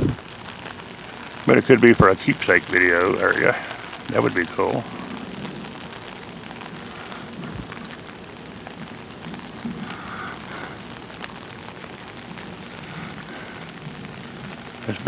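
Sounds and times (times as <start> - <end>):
raindrops ticking: 0.0 - 15.0
steady rain: 0.0 - 15.0.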